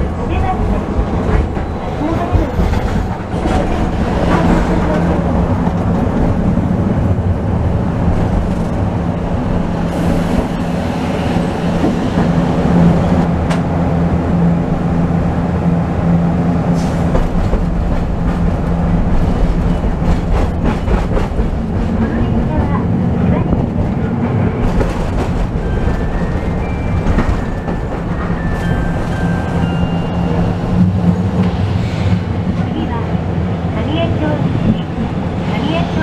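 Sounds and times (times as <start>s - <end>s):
steel wheels rumbling on rails: 0.0s - 36.0s
streetcar motor hum: 0.0s - 36.0s.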